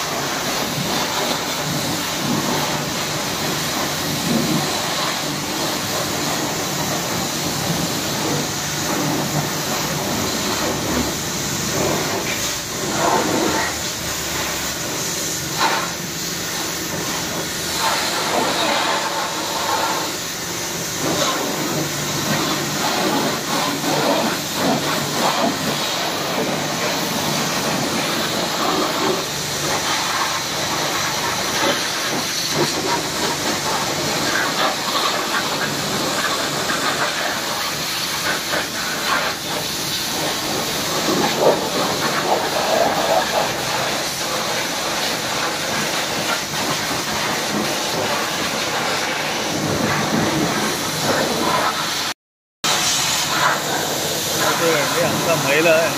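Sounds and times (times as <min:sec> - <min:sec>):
pressure washer spraying water: 0:00.0 - 0:55.9.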